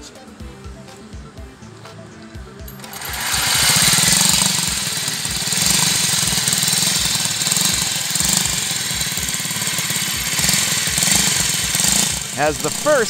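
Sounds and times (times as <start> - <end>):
small engine idling with exhaust popping: 2.4 - 13.0.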